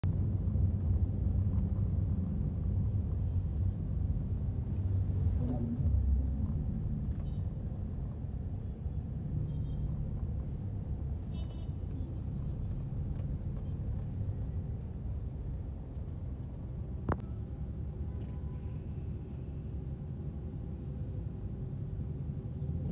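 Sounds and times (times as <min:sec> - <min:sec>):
car engine rumble: 0:00.0 - 0:22.9
road traffic from inside a car: 0:00.1 - 0:22.9.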